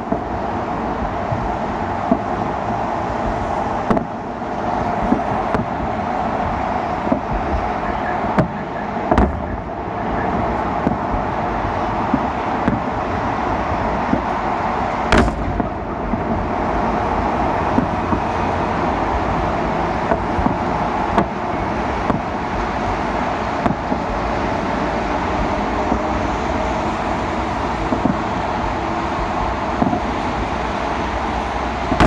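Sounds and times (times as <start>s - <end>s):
distant firework bangs: 0.0s - 30.8s
outdoor background noise: 0.0s - 32.0s.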